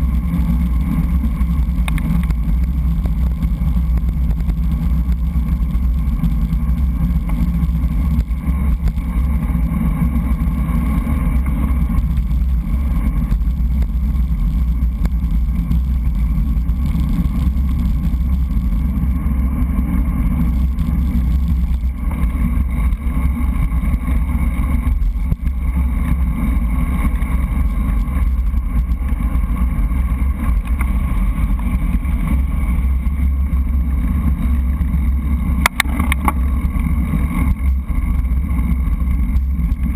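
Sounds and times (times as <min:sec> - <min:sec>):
bicycle tyre and road noise: 0:00.0 - 0:39.9.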